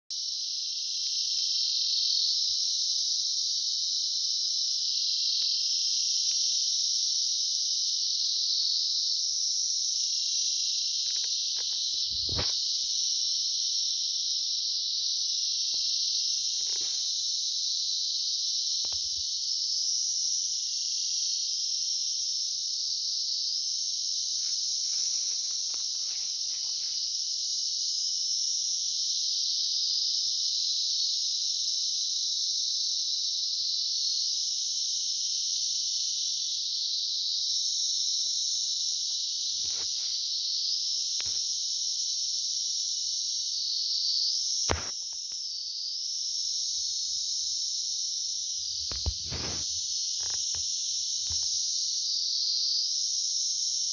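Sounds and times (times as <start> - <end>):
cicadas buzzing: 0.1 - 53.9.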